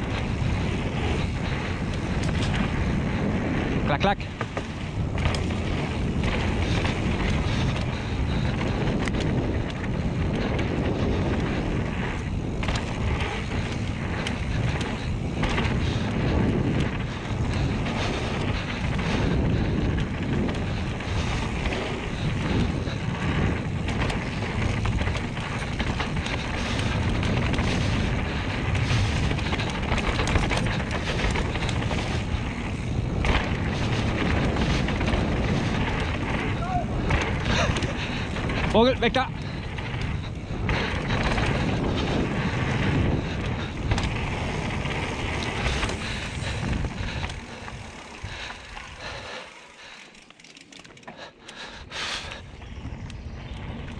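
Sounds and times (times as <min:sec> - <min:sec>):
bike rattling over bumps: 0:00.0 - 0:53.9
tyres rolling on dirt: 0:00.0 - 0:53.9
wind buffeting microphone: 0:00.0 - 0:53.9.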